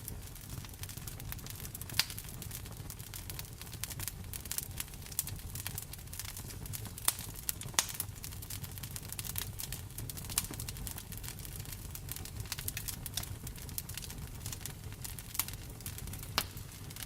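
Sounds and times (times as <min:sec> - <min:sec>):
low rumble of rain: 0:00.0 - 0:17.0
wood fire crackling: 0:00.0 - 0:17.0.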